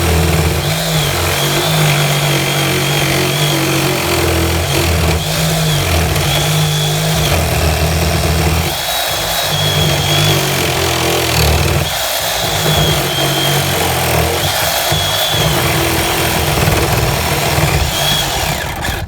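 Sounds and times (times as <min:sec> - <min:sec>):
electric saw cutting wood: 0:00.0 - 0:19.0.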